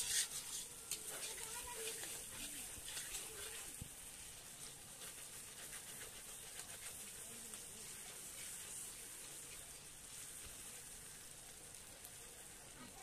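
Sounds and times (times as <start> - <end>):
spatula scraping a pan: 0.0 - 10.9
food sizzling in a wok: 0.0 - 13.0.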